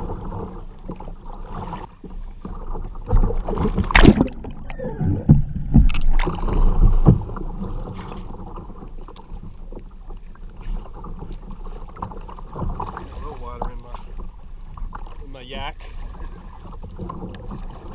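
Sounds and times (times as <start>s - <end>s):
soft water movement: 0.0s - 17.9s
water splashing around a kayak: 0.0s - 17.9s.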